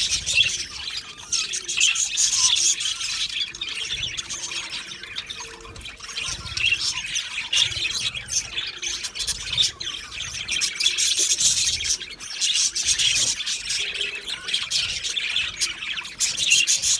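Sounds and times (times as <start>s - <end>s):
budgerigars chattering and chirping: 0.0s - 16.9s.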